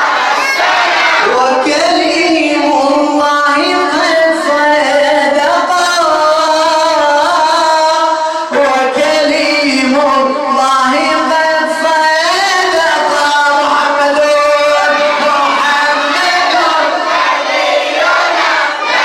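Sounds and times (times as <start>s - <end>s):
chanted religious singing: 0.0s - 19.0s.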